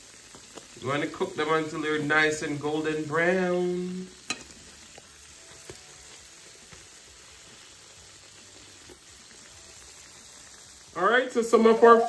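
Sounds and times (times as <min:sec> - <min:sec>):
dumplings sizzling in oil: 0:00.0 - 0:12.0.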